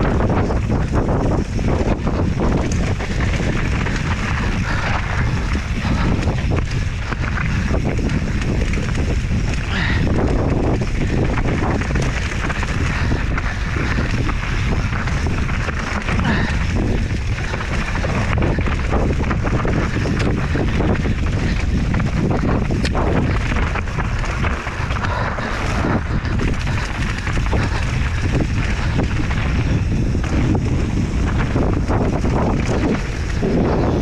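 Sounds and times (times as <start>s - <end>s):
bike clattering over stones: 0.0s - 34.0s
wind buffeting microphone: 0.0s - 34.0s.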